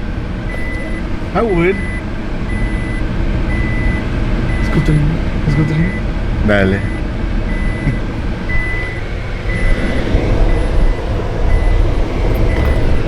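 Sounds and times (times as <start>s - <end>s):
car engine and road rumble: 0.0s - 13.0s
warning chime beeping: 0.5s - 13.0s.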